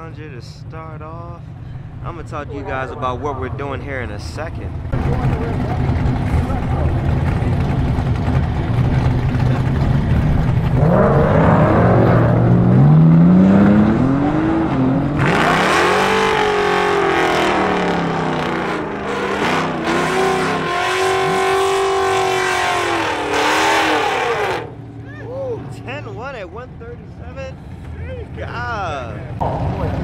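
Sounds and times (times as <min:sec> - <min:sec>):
car engines idling and revving: 0:00.0 - 0:30.0
engine at full throttle: 0:01.5 - 0:30.0.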